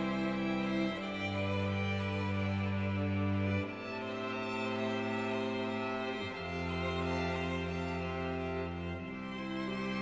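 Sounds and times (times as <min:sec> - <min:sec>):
music with sustained chords: 0:00.0 - 0:10.0.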